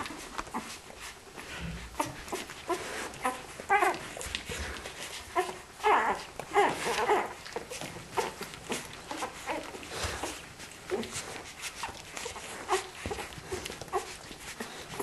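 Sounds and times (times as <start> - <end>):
puppies whimpering and squeaking: 0.0 - 15.0.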